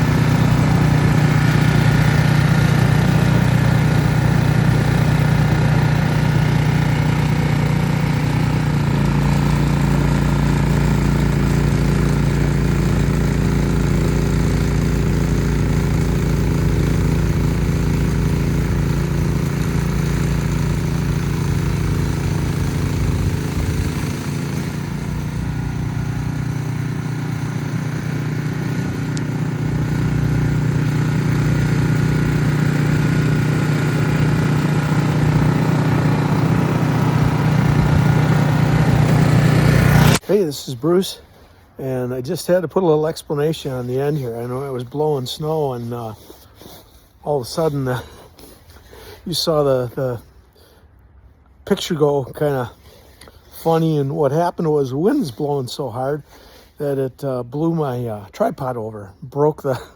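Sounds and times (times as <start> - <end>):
snowblower engine running: 0.0 - 41.5, 42.4 - 50.8, 52.0 - 59.9.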